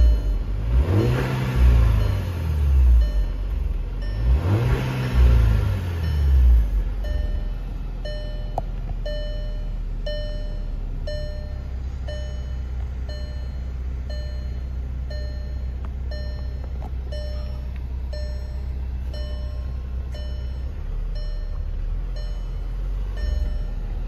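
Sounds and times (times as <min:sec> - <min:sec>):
car engine idling: 0:00.0 - 0:24.0
dashboard warning chime: 0:00.0 - 0:24.0.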